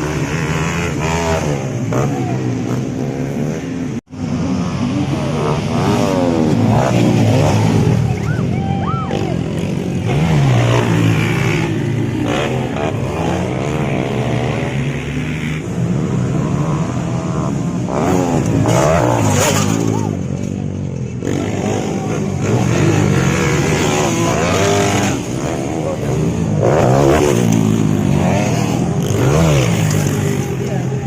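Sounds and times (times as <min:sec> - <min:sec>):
motocross bikes revving: 0:00.0 - 0:31.0.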